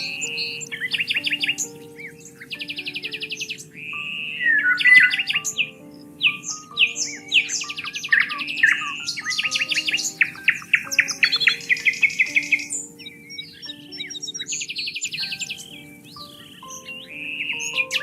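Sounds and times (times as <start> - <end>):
soft held musical tones: 0.0 - 18.0
songbirds chirping: 0.0 - 18.0.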